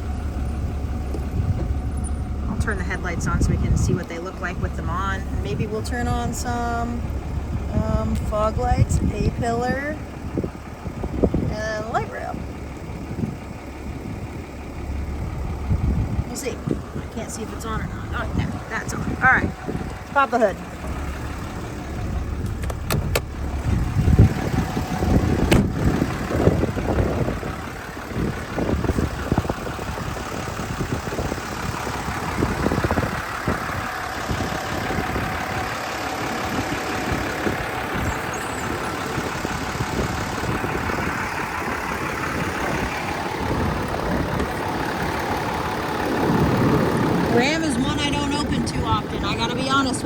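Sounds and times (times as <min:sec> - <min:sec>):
diesel engine idling: 0:00.0 - 0:50.0
low bumps: 0:00.0 - 0:50.0.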